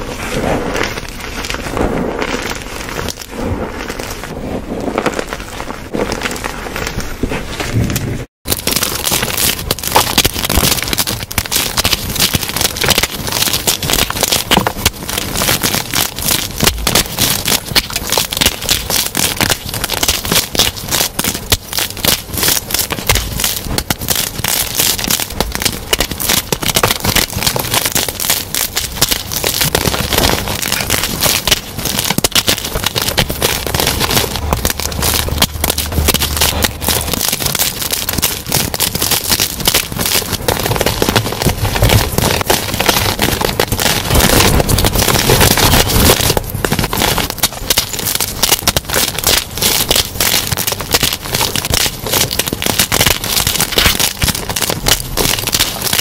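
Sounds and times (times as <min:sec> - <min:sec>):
chalk blocks crunching in hands: 0:00.0 - 0:56.0.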